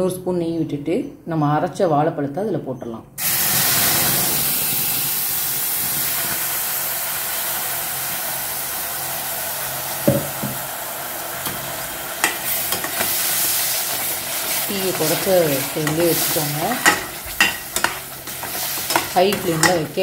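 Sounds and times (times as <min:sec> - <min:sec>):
frying sizzle in a pot: 0:03.2 - 0:20.0.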